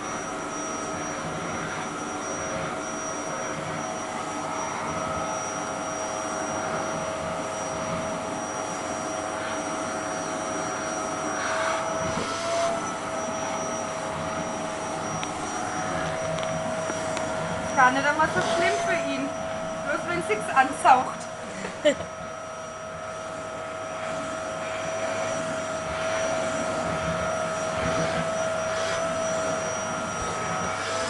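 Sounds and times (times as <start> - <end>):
vacuum cleaner whining: 0.0 - 31.0.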